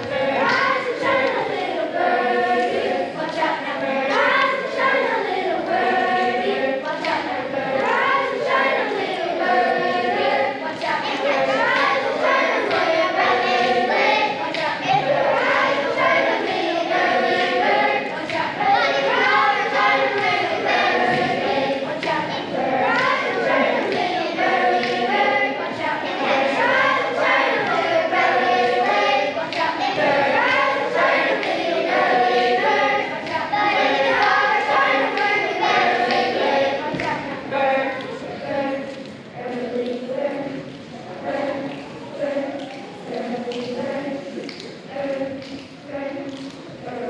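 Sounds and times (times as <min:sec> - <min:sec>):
choir singing: 0:00.0 - 0:47.0.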